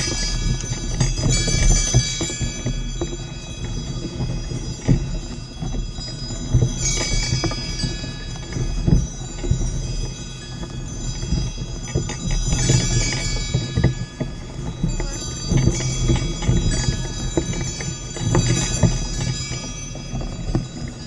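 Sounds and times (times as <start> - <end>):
harness bells jingling: 0.0 - 21.0
hooves thudding in snow: 0.0 - 21.0.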